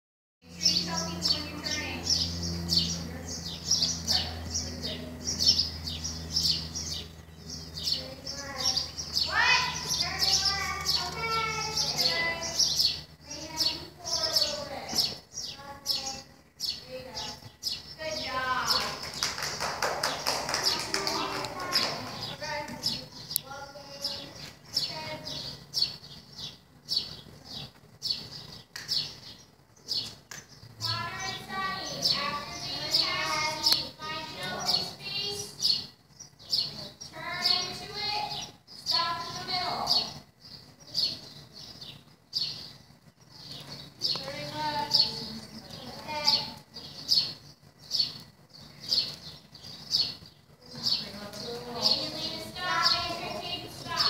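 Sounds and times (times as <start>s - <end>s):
small birds chirping: 0.4s - 54.0s
steady low hum: 0.4s - 54.0s.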